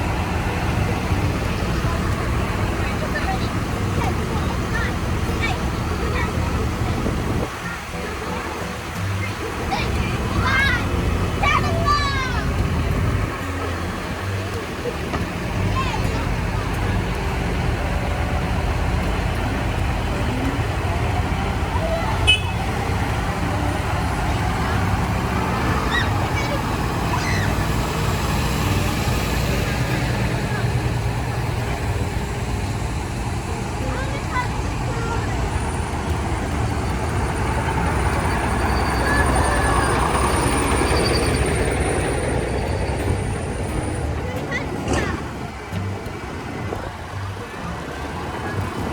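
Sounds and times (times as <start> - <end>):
crowd voices: 0.0 - 48.9
tractor engines rumbling: 0.0 - 48.9.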